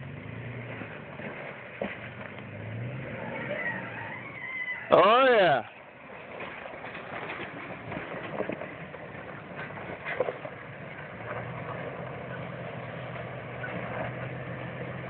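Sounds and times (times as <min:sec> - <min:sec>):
engine running at low revs: 0:00.0 - 0:04.6, 0:05.8 - 0:15.0.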